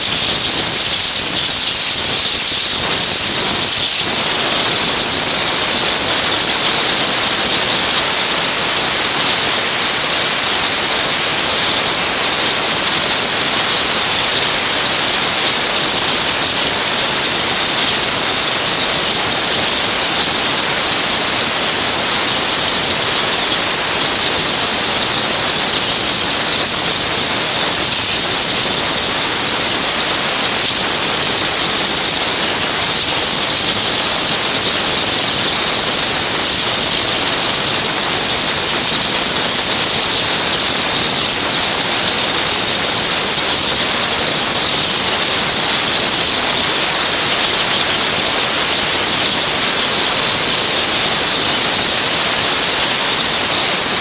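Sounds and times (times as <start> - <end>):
waterjet cutter hissing: 0.0 - 54.0.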